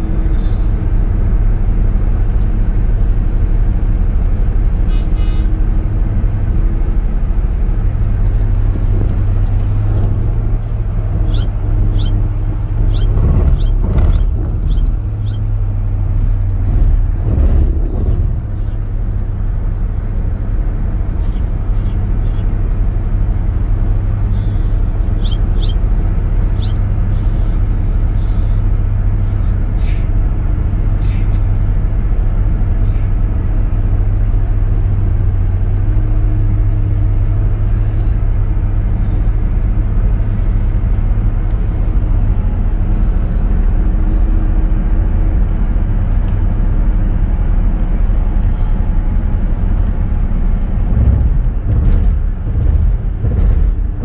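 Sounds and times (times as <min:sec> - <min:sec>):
car cabin road rumble: 0:00.0 - 0:54.0.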